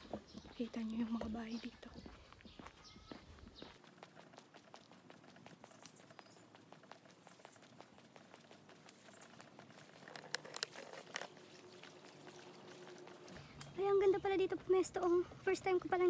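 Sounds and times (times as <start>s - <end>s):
footsteps on paved path: 0.0s - 16.0s.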